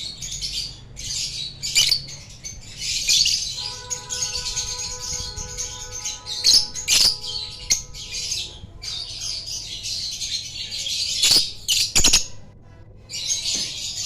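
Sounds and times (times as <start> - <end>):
sharp loud bird notes: 0.0 - 12.3
lovebirds chattering: 0.0 - 14.0.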